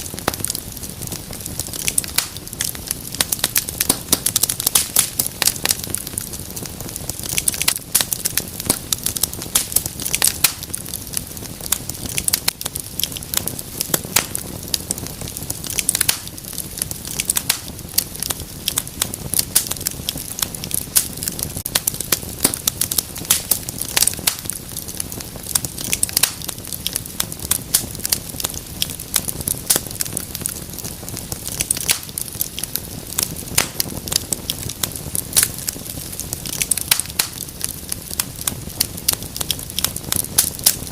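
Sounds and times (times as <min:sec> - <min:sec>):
low rumble of burning logs: 0:00.0 - 0:40.9
wood fire crackling and popping: 0:00.0 - 0:40.9.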